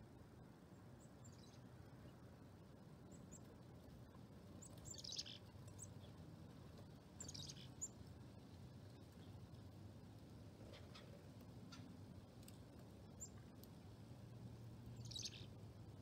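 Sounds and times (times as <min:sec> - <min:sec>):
low steady hum: 0:00.0 - 0:16.0
small birds chirping: 0:00.6 - 0:09.7, 0:10.6 - 0:13.8, 0:14.8 - 0:16.0.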